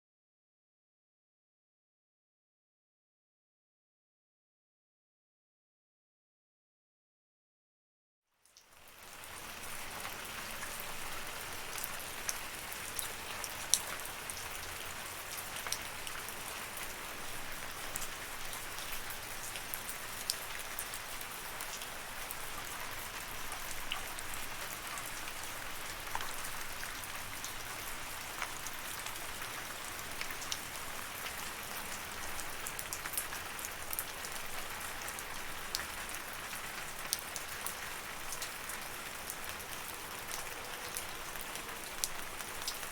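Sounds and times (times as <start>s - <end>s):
raindrops ticking on a surface: 8.4s - 42.9s.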